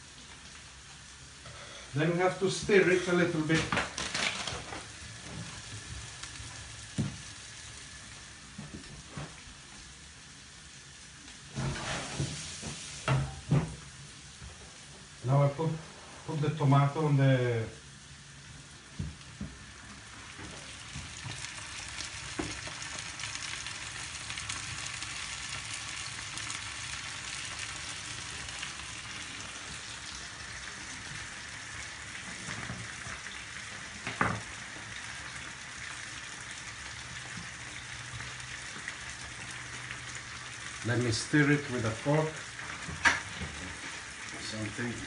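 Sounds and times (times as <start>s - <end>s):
tomatoes sizzling in a pan: 0.0s - 45.0s.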